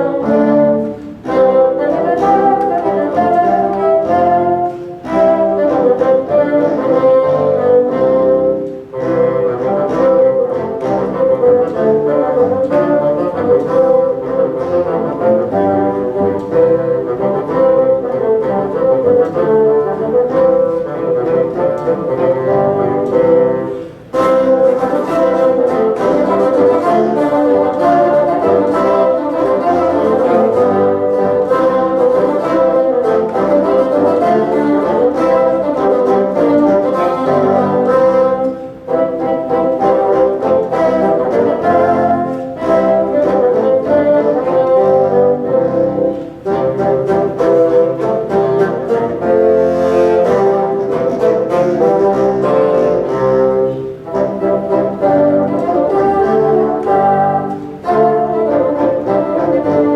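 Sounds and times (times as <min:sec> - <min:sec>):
bassoon ensemble playing: 0:00.0 - 0:59.9.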